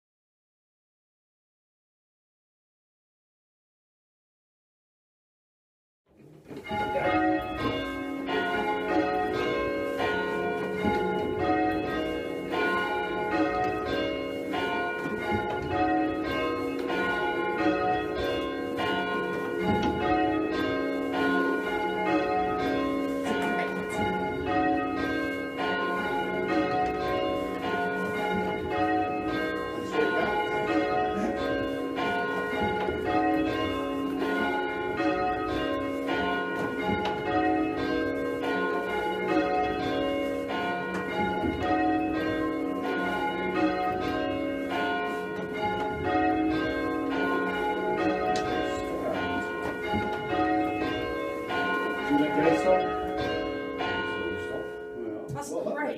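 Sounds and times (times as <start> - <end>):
church bells ringing: 6.5 - 55.9.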